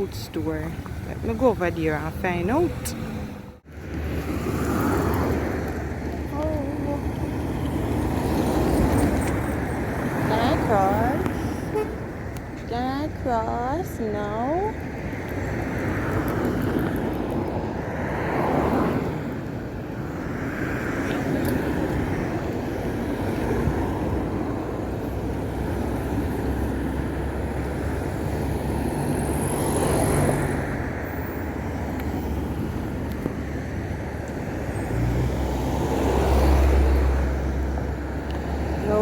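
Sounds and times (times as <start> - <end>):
cars driving past: 0.0 - 39.0.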